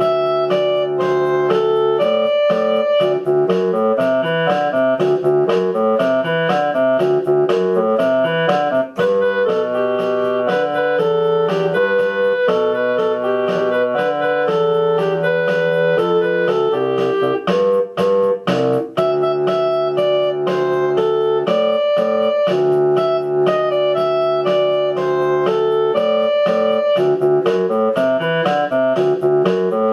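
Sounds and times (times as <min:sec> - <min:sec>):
instrumental piano music: 0:00.0 - 0:29.9.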